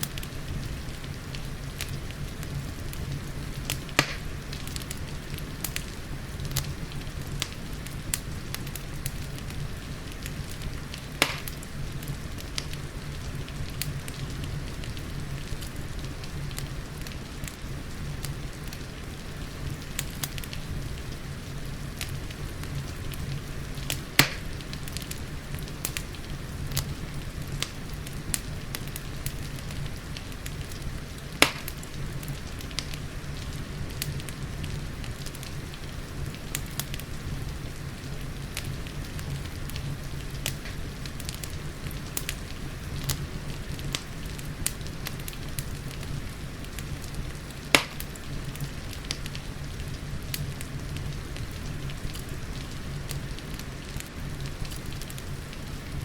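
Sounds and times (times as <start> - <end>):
sharp pops of fire: 0.0 - 17.6, 22.0 - 37.4, 38.4 - 56.0
rain hiss: 0.0 - 56.0
wood fire crackling: 0.0 - 56.0.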